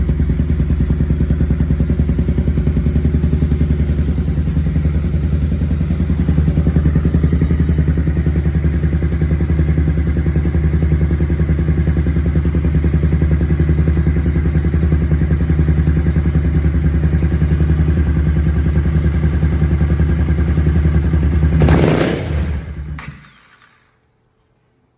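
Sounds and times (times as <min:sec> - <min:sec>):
motorcycle engine idling: 0:00.0 - 0:23.3.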